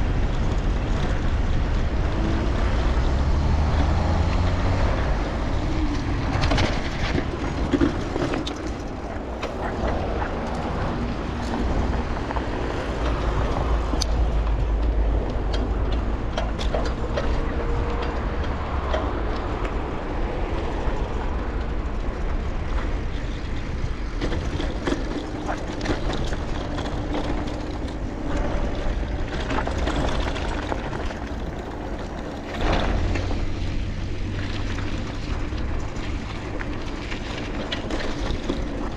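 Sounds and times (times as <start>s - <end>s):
rattles and clicks: 0.0s - 38.9s
tyre and road noise: 0.0s - 38.9s
wind buffeting microphone: 0.0s - 38.9s.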